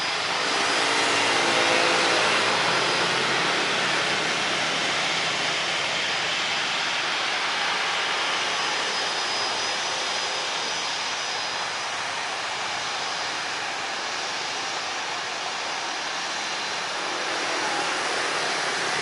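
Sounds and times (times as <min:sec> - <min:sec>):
jet engines at low thrust: 0:00.0 - 0:19.0.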